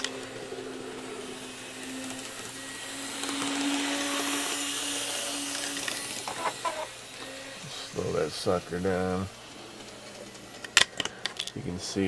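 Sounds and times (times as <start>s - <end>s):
model train motor whir: 0.0s - 12.0s.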